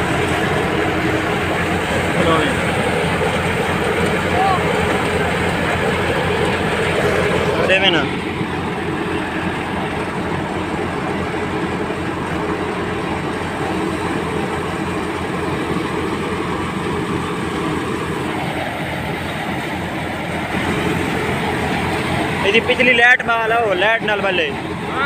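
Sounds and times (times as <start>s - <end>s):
thresher droning and rattling: 0.0s - 25.0s.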